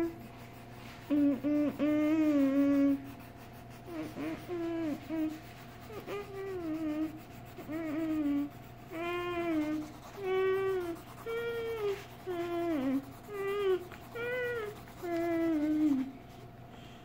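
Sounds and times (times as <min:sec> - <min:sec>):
child humming a tune: 0:00.0 - 0:00.3, 0:01.0 - 0:16.2
pencil rubbing on paper: 0:00.0 - 0:16.4.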